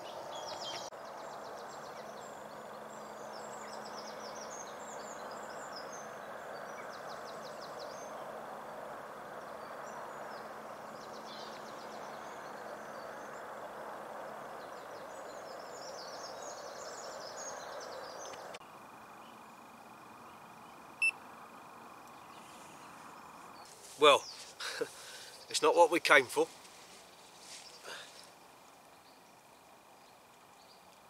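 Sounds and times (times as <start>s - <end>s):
small birds chirping: 0.0s - 21.1s, 21.9s - 31.0s
outdoor background hiss: 0.0s - 31.0s.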